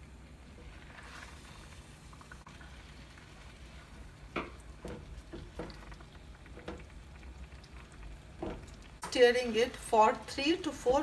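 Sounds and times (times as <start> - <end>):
pot simmering: 0.0 - 11.0.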